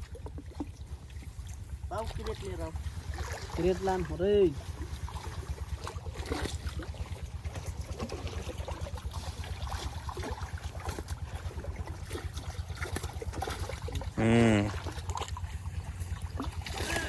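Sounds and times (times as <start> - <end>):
low rapid throbbing rumble: 0.0 - 17.0
pond water splashing: 0.0 - 17.0.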